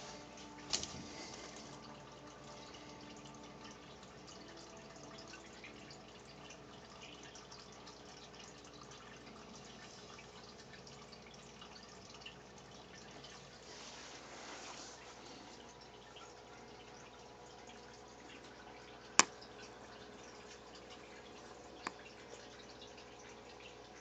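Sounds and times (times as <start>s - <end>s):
aquarium water trickling and dripping: 0.0s - 24.0s
low steady hum: 0.0s - 24.0s.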